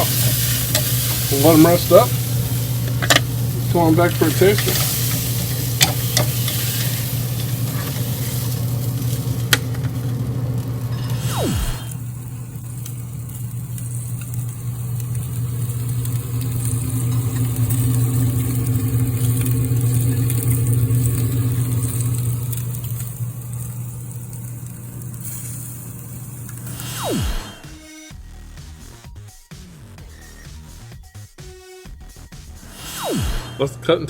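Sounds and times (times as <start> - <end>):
low mechanical hum: 0.0 - 27.6.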